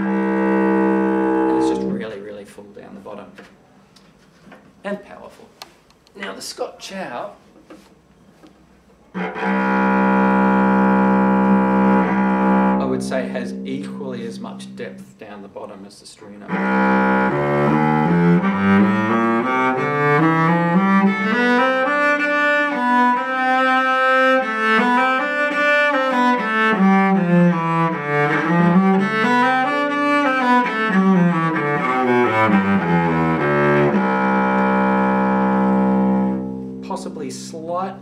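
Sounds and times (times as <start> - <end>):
bowed cello melody: 0.0 - 2.4, 9.1 - 38.0.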